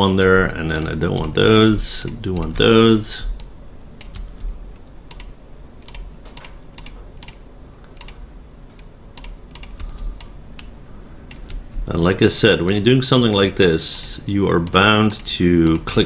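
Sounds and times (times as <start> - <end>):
computer mouse clicking: 0.8 - 2.7, 3.3 - 11.9, 12.6 - 16.0.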